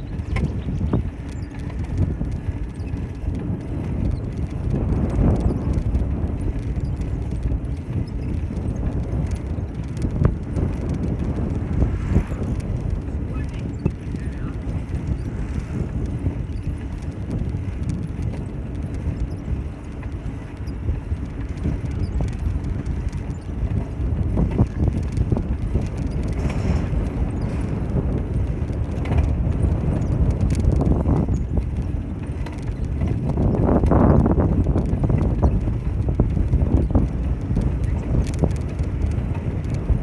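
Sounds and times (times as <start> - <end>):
bicycle rattling: 0.0 - 40.0
bicycle tyres rolling on street: 0.0 - 40.0.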